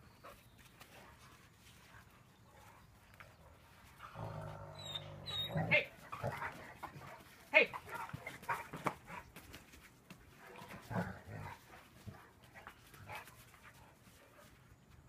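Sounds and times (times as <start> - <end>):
dogs making quiet vocal sounds: 0.0 - 15.0.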